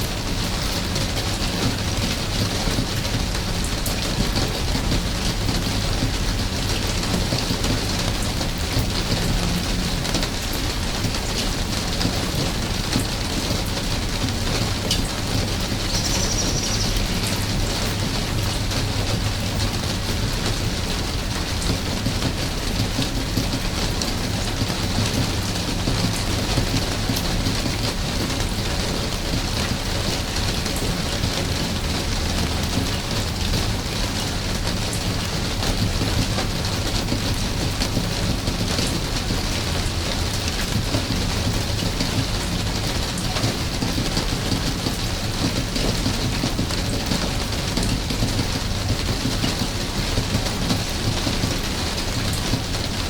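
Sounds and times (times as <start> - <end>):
steady rain hissing: 0.0 - 53.0.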